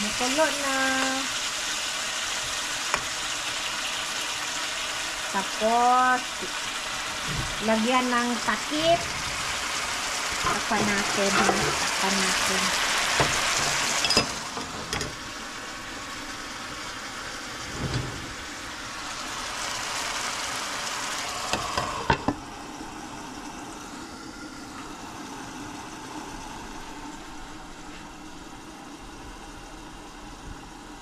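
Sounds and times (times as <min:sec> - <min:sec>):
food boiling and sizzling in pan: 0:00.0 - 0:31.0.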